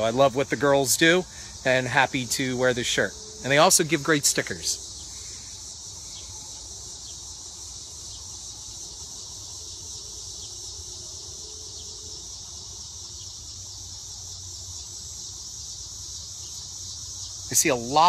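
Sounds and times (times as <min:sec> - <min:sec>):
crickets and insects chirping: 0:00.0 - 0:18.0.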